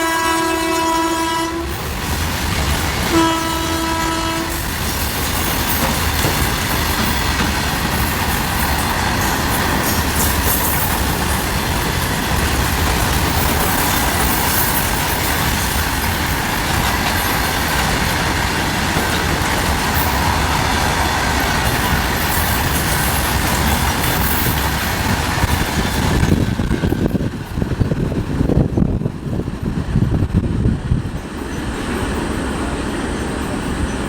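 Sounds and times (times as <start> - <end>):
freight train wheels rattling: 0.0 - 34.0.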